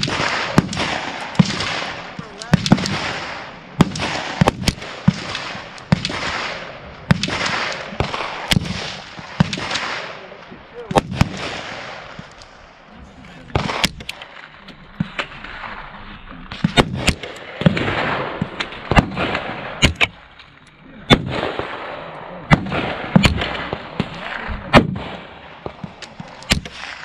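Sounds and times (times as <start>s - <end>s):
gunshots with short echo: 0.0s - 12.6s, 13.4s - 20.3s, 21.0s - 27.0s.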